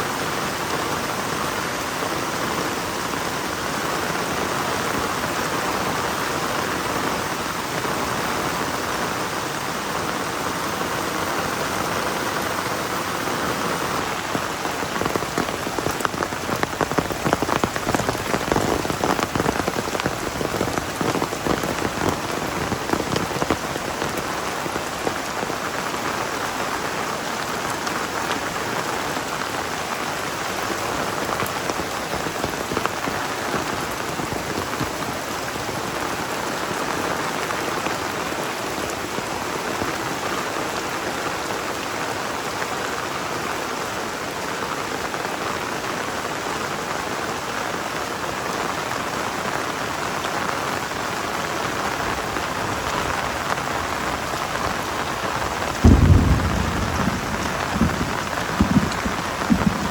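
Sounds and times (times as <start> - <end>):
heavy rain splashing: 0.0 - 59.9.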